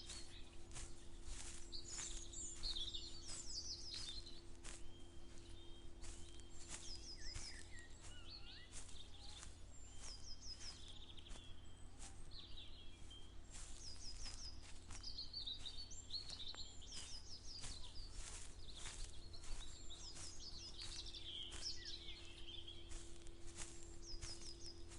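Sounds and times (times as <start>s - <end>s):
soft footsteps walking: 0.0s - 24.9s
songbirds singing: 0.0s - 24.9s.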